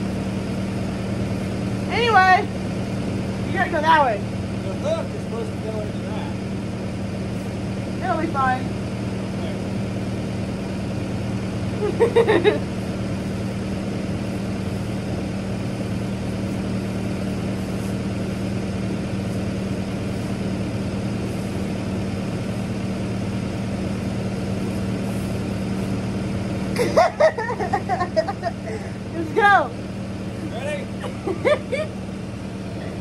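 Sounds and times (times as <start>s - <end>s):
loader engine idling: 0.0s - 33.0s.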